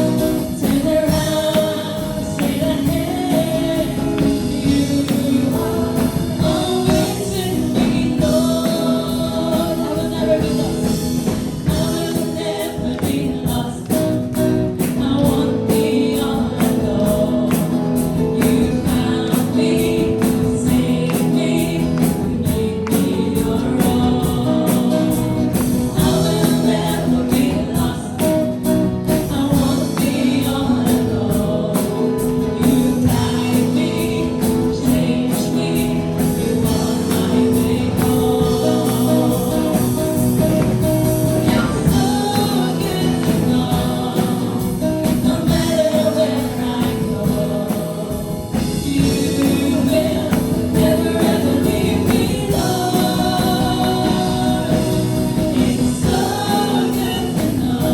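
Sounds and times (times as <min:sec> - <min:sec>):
group singing praise song: 0:00.0 - 0:57.9.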